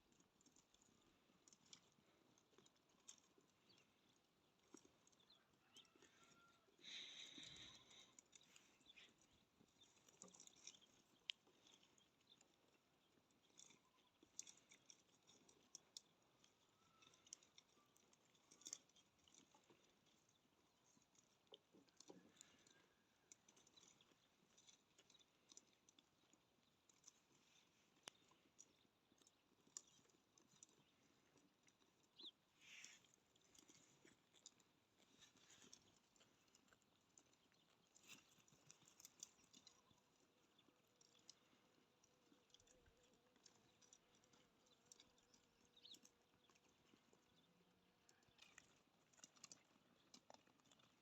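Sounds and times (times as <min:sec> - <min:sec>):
faint ticks and crackles: 0:00.0 - 0:51.0.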